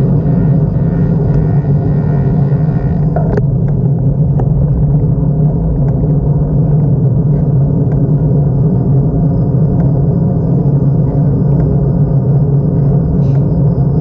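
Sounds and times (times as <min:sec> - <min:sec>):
motorcycle engine running: 0:00.0 - 0:13.1
wind noise: 0:00.0 - 0:14.0.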